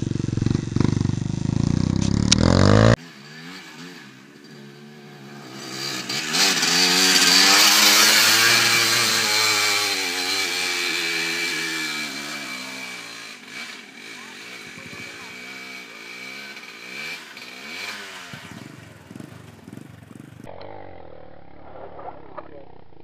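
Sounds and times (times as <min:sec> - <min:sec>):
dirt bike engine passing: 0:00.0 - 0:22.6.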